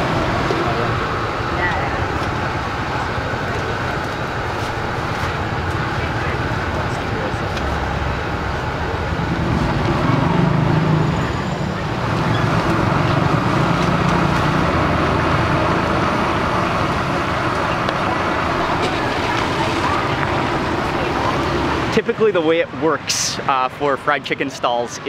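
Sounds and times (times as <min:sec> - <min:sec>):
low engine hum: 0:00.0 - 0:22.0
street traffic: 0:00.0 - 0:25.0.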